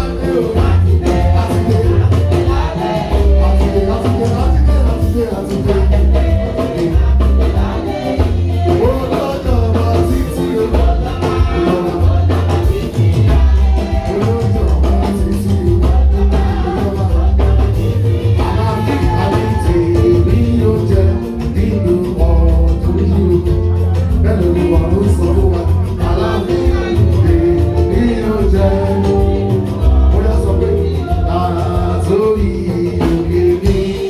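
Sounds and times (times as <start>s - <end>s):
singing over a bass-heavy beat: 0.0s - 34.0s.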